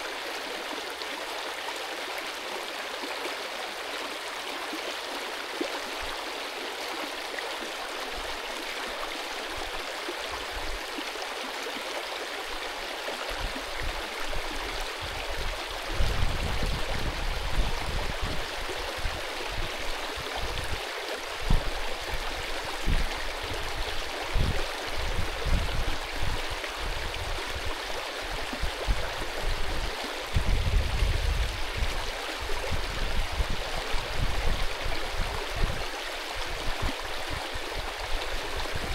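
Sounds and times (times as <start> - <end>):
mountain stream rushing: 0.0 - 38.9.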